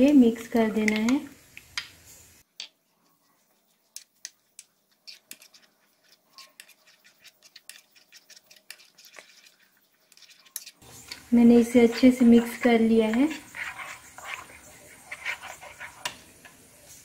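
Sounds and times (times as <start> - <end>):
spoon stirring in plastic bowl: 2.6 - 17.0.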